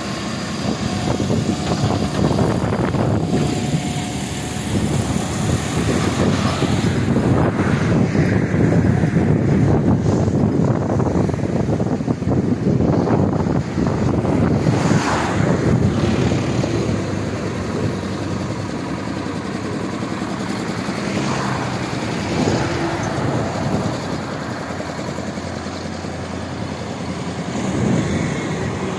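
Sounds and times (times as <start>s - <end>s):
highway traffic rumble: 0.0s - 28.9s
vehicles passing: 0.0s - 28.9s.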